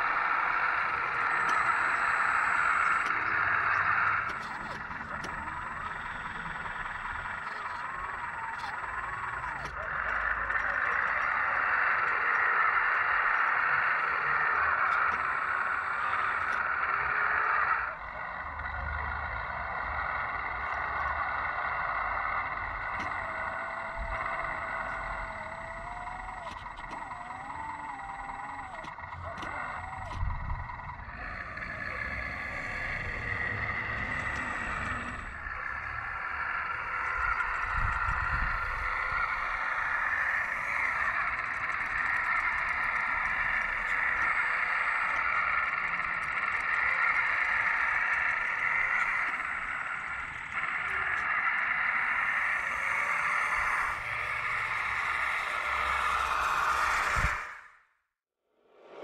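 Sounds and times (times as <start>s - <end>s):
electric pump and motors whining: 0.0s - 57.9s.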